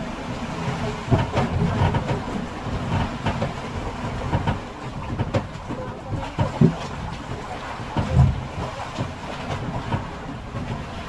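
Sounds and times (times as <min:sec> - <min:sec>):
boat engine rumble: 0:00.0 - 0:11.0
knocking and clattering: 0:01.1 - 0:10.8.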